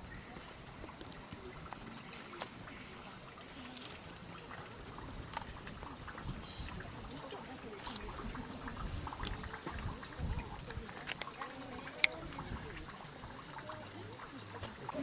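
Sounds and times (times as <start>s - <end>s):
faint voices: 0.0s - 15.0s
water trickling and splashing: 0.0s - 15.0s.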